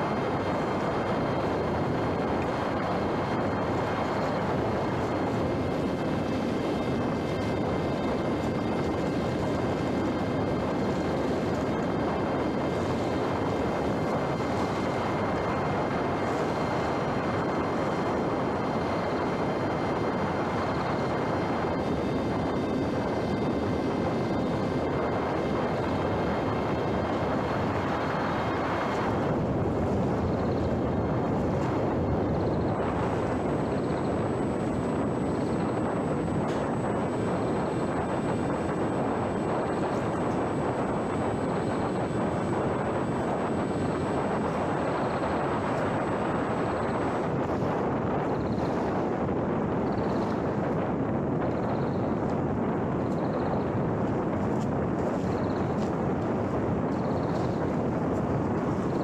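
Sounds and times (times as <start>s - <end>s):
electric motor whine: 0.0s - 59.0s
rush of air noise: 0.0s - 59.0s.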